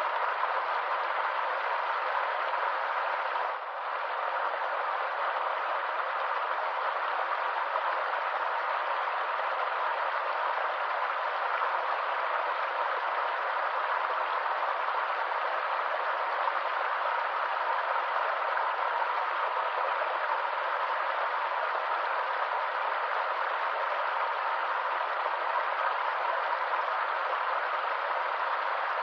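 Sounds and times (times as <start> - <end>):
stream running water: 0.0 - 29.0.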